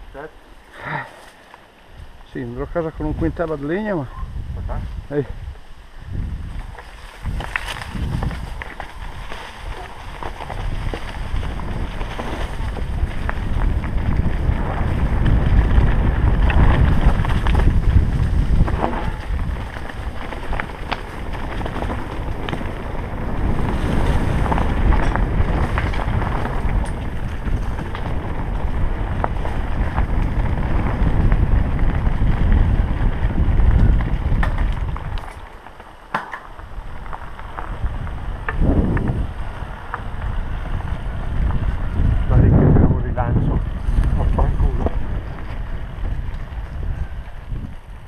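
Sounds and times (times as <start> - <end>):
tyres rumbling on dirt trail: 0.0 - 48.0
wind buffeting microphone: 1.8 - 48.0
bike rattling over bumps: 6.1 - 48.0.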